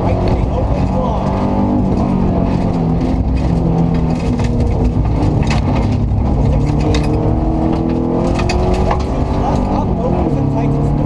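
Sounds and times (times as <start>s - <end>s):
gravel striking car: 0.0s - 10.5s
car engine pulling hard: 0.0s - 11.0s.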